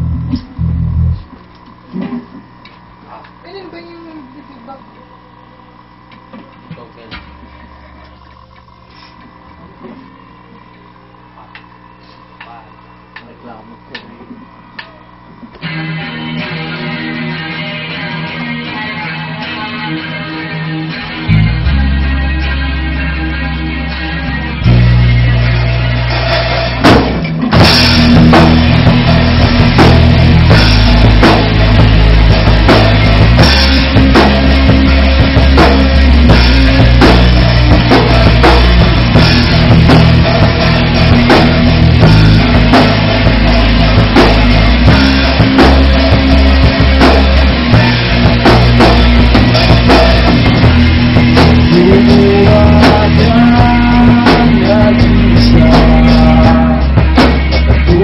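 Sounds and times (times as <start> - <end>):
drum kit: 0.0 - 4.3, 8.8 - 58.0
electric guitars: 0.0 - 58.0.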